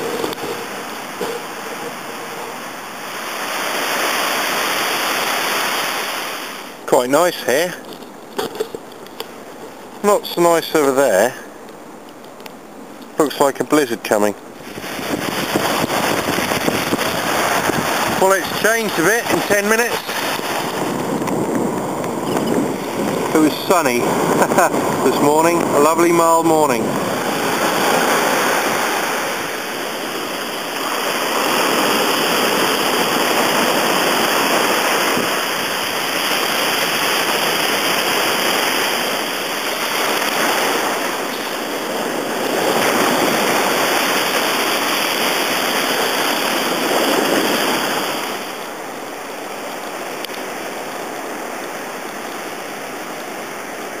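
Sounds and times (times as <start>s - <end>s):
sea surf breaking: 0.0s - 11.6s, 13.1s - 54.0s.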